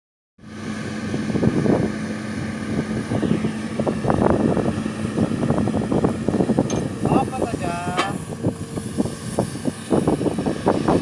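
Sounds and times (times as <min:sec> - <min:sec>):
vehicle engine humming: 0:00.4 - 0:11.0
wind buffeting microphone: 0:00.4 - 0:11.0.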